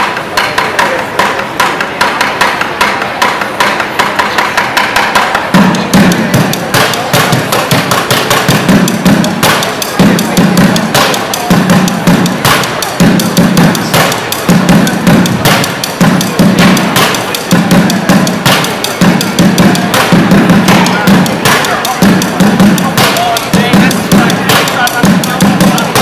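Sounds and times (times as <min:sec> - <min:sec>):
drumsticks hitting plastic buckets: 0:00.0 - 0:26.0
heavy low drum strikes: 0:03.6 - 0:26.0.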